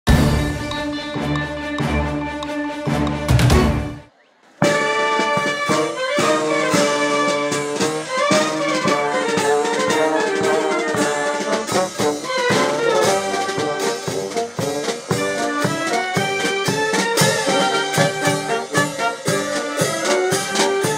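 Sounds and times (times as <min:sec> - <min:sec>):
brass music: 0:00.1 - 0:20.9.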